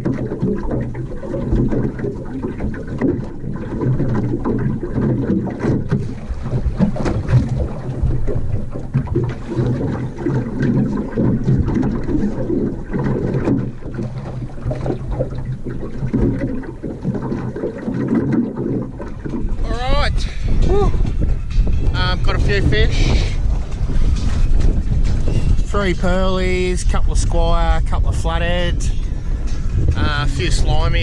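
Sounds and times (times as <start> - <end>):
boat motor hum: 0.0 - 31.0
wind buffeting microphone: 0.0 - 31.0.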